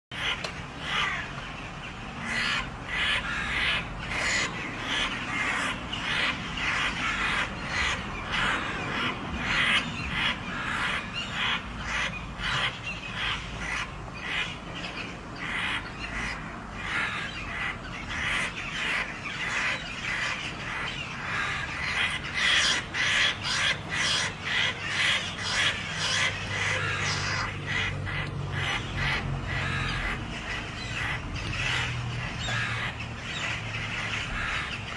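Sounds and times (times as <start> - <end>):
birds giving harsh calls: 0.1 - 34.9.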